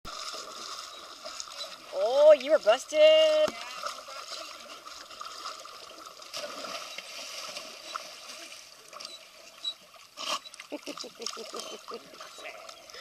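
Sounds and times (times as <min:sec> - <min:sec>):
dogs splashing in water: 0:00.1 - 0:13.0.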